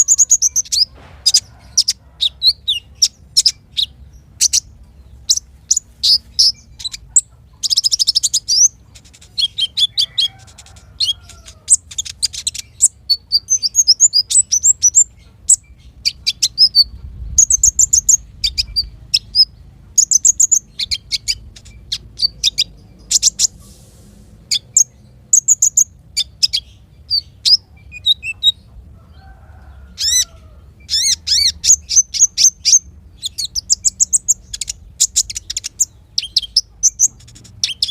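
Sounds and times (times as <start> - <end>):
songbirds chirping and trilling: 0.0 - 37.9.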